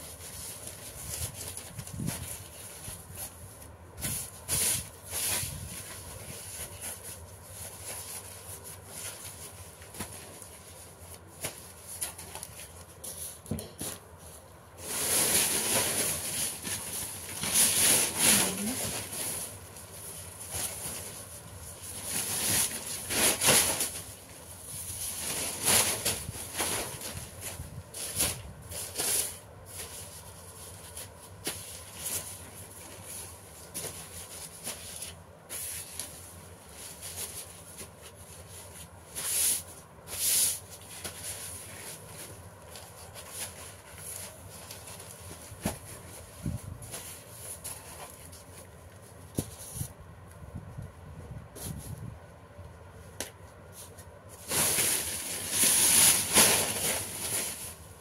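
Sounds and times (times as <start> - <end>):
paper rustling and crinkling: 0.0 - 50.0, 53.0 - 58.0.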